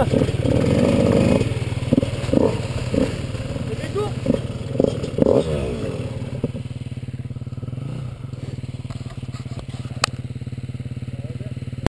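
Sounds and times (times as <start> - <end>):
dirt bike engine idling: 0.0 - 11.9.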